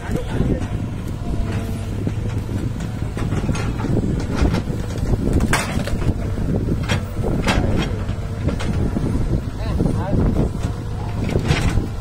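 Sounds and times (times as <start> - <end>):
excavator diesel engine running: 0.0 - 12.0
wind on microphone: 0.0 - 12.0.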